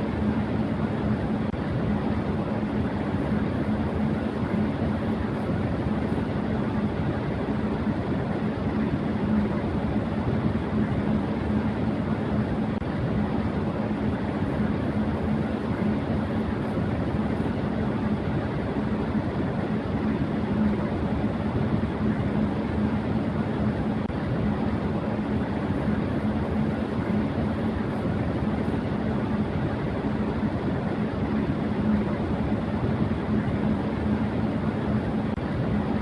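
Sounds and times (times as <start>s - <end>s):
electric fan rushing air: 0.0s - 36.0s
low hum: 0.0s - 36.0s.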